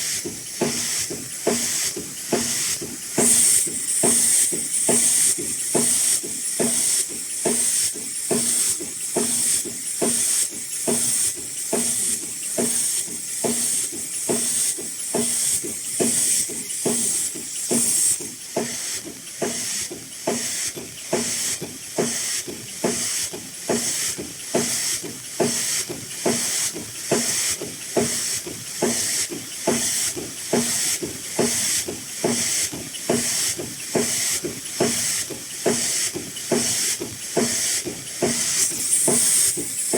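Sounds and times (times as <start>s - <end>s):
machine rhythmic clacking: 0.0s - 39.9s.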